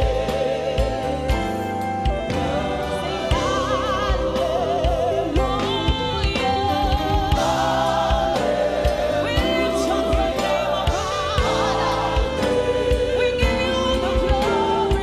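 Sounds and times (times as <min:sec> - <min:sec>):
band playing with drum beat: 0:00.0 - 0:15.0
woman singing into microphone: 0:00.0 - 0:15.0.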